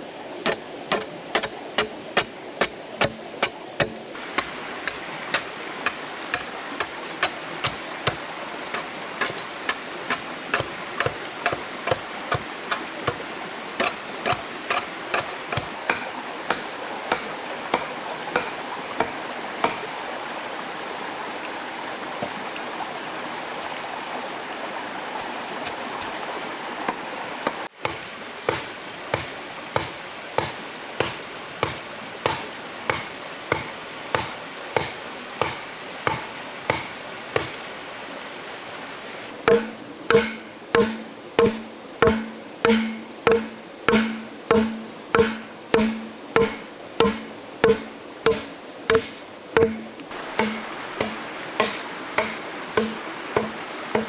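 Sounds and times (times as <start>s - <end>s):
small stream rushing: 0.0s - 54.0s
hand tool striking: 0.4s - 13.2s, 13.8s - 19.8s, 27.4s - 37.6s, 39.4s - 54.0s.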